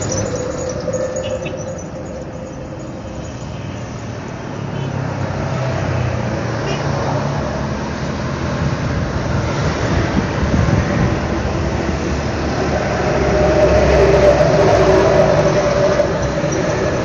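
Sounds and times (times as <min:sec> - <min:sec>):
vehicle running noise: 0:00.0 - 0:17.0.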